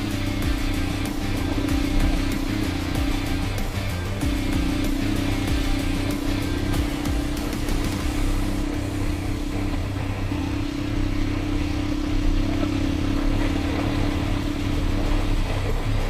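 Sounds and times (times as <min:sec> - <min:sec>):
dirt bike engine running: 0:00.0 - 0:16.0
road noise: 0:00.0 - 0:16.0.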